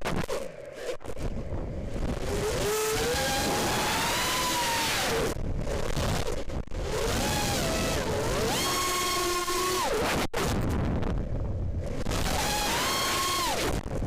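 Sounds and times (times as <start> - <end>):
drone motors whining: 0.2 - 10.3, 11.8 - 14.0
wind rushing over microphone: 1.0 - 8.7, 10.0 - 14.0.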